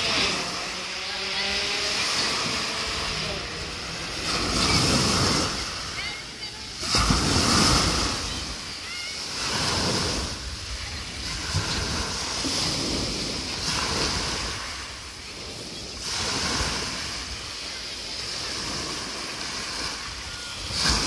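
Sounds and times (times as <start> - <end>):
waves washing on pebble beach: 0.0 - 21.0.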